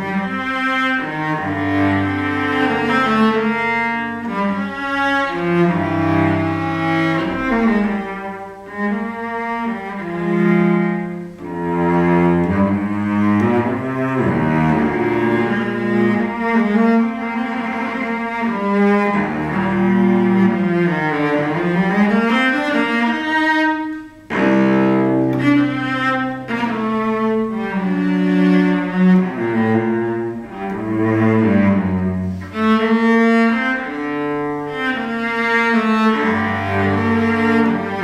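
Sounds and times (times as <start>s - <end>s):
cello bowed in slow melody: 0.0s - 38.0s.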